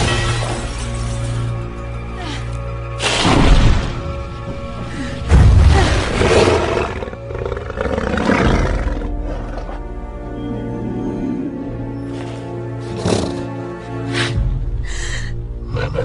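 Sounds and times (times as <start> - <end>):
dramatic film score music: 0.0 - 16.0.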